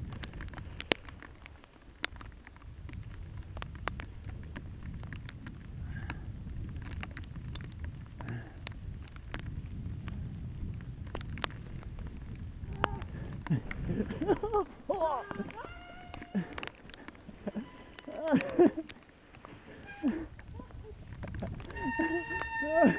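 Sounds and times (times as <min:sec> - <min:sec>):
bike rattling over bumps: 0:00.0 - 0:22.9
bike tyres rumbling on trail: 0:00.0 - 0:22.9.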